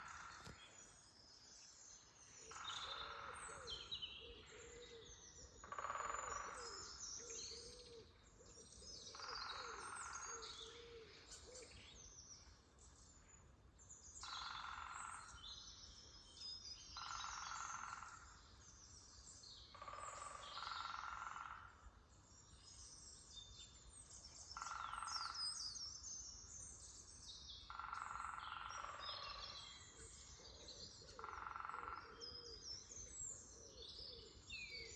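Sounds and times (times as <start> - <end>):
small birds chirping and singing: 0.0 - 34.9.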